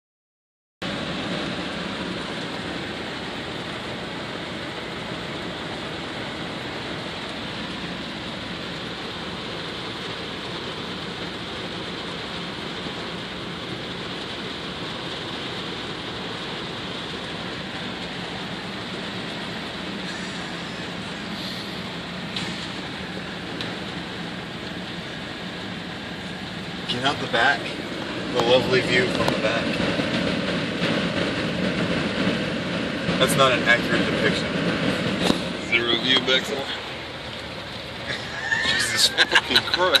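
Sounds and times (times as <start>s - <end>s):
heavy rain on vehicle roof: 0.8s - 40.0s.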